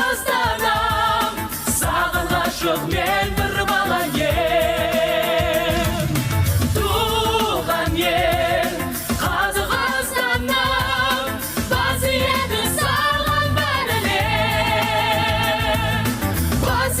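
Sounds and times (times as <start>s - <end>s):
band accompaniment with bass line: 0.0s - 17.0s
person singing with vibrato: 0.0s - 17.0s.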